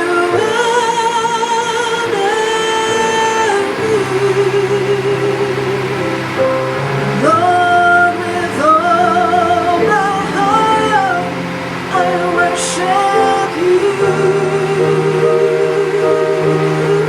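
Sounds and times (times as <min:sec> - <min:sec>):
sustained accompaniment chords: 0:00.0 - 0:17.0
woman singing with vibrato: 0:00.0 - 0:17.0.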